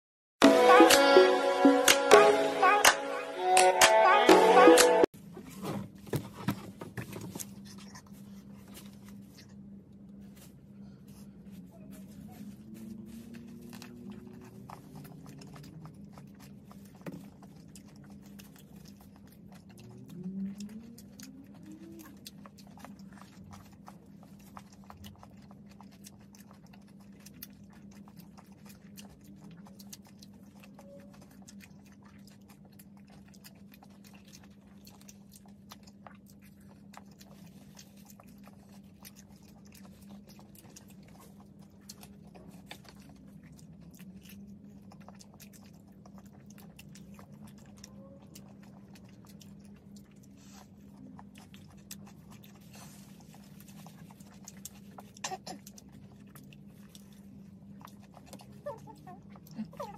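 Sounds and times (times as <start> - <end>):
people chewing food: 0.4 - 59.9.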